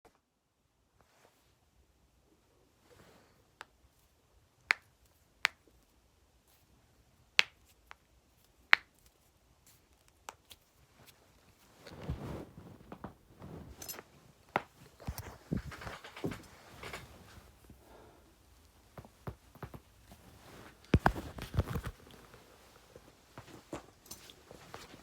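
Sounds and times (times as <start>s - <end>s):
rustling and shuffling: 1.0s - 1.6s, 5.0s - 25.0s.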